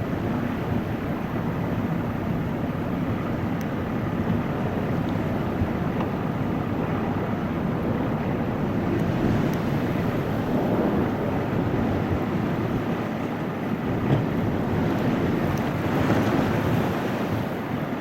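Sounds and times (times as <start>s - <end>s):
vehicle road and wind noise: 0.0s - 18.0s.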